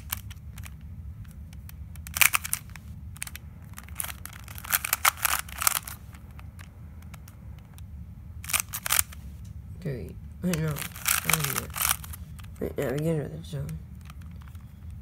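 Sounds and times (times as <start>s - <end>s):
puzzle cube clicking as turned: 0.0s - 9.2s, 10.5s - 13.1s, 13.7s - 15.0s.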